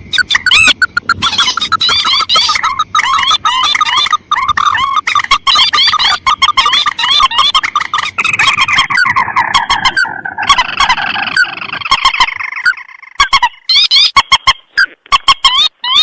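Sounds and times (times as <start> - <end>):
rails and crakes calling: 0.0 - 16.0.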